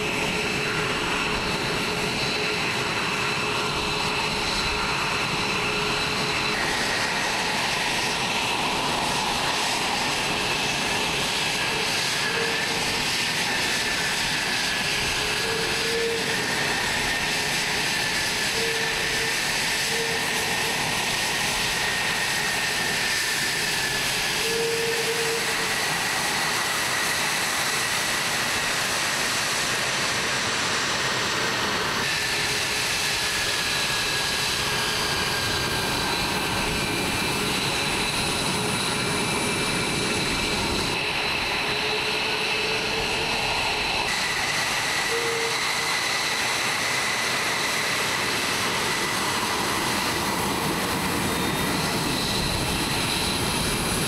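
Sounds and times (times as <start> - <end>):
high turbine whine: 0.0 - 54.0
jet engines running: 0.0 - 54.0.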